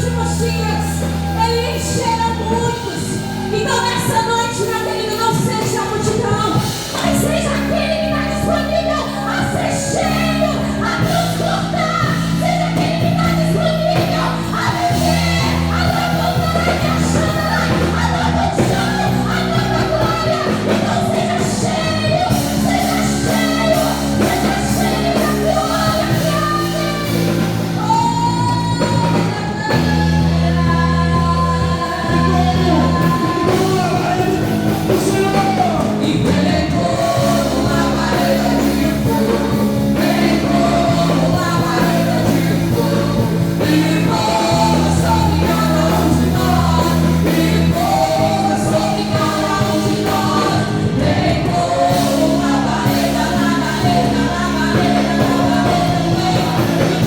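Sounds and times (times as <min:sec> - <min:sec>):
praise band playing: 0:00.0 - 0:57.0
singers singing: 0:00.0 - 0:57.0.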